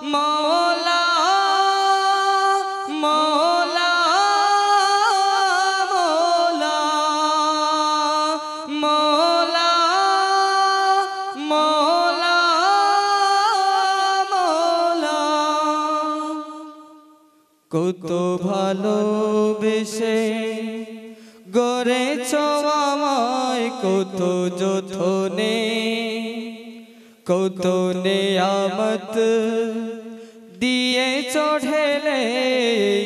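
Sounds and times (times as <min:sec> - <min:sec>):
wordless vocal melody: 0:00.0 - 0:33.0.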